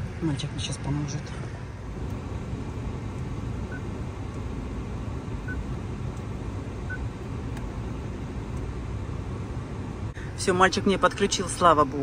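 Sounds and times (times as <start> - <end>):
car running low rumble: 0.0 - 12.0.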